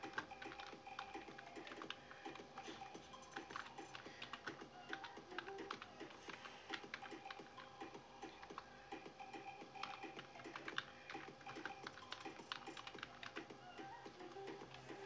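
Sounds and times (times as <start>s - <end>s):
computer keyboard typing: 0.0s - 15.0s.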